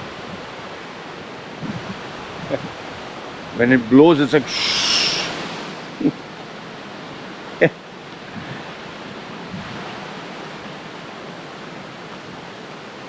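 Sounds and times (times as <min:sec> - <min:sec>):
wind blowing hiss: 0:00.0 - 0:12.7.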